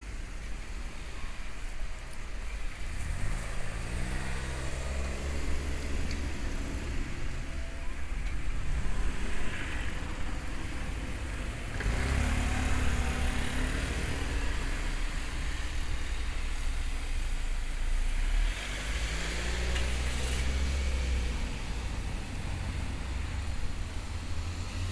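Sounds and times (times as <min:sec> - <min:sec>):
cars driving by: 0:00.1 - 0:24.9.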